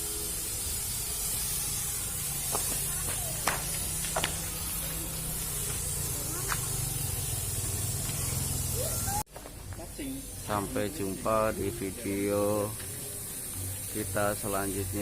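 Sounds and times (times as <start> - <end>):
fog spray hissing: 0.0 - 15.0.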